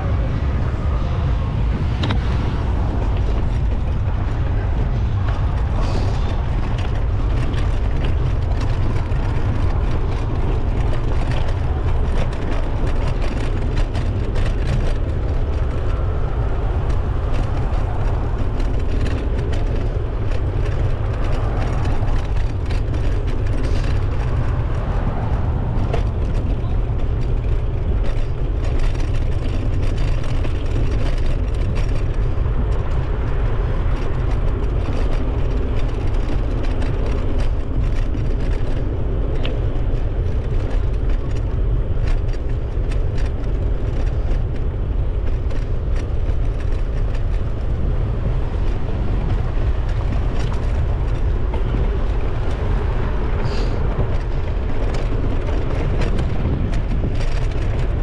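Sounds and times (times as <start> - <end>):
bicycle tyre road noise: 0.0 - 58.0
wind buffeting microphone: 0.0 - 58.0
light clicks and rattles: 1.9 - 58.0.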